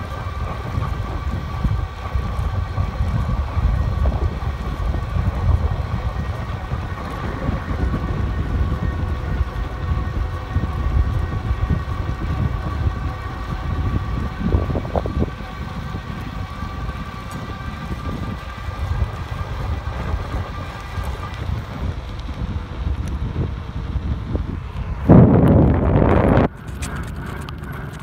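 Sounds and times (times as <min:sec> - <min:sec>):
tyres rumbling on pavement: 0:00.0 - 0:25.0
electric motor whine: 0:00.0 - 0:28.0
wind buffeting microphone: 0:00.0 - 0:28.0.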